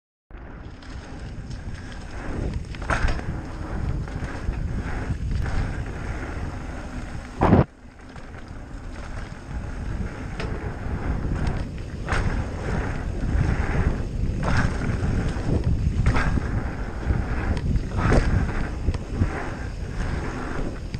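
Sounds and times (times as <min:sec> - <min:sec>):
tyre rumble on dirt trail: 0:00.4 - 0:20.9
wind buffeting microphone: 0:00.4 - 0:20.9.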